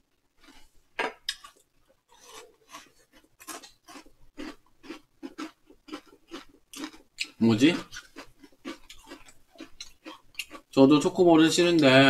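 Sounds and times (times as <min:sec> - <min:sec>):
cereal crunching while chewed: 0:00.4 - 0:10.8.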